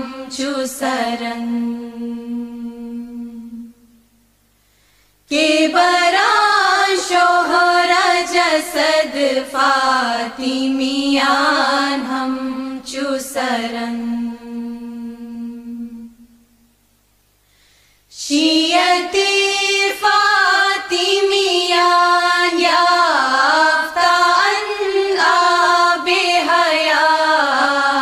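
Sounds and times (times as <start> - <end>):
person chanting: 0.0 - 4.0, 5.3 - 16.4, 18.1 - 28.0.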